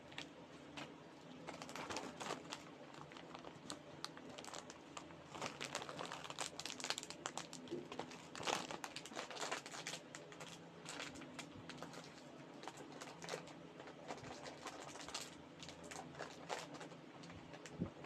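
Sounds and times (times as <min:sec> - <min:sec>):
plastic snack wrapper crinkling: 0:01.4 - 0:17.9.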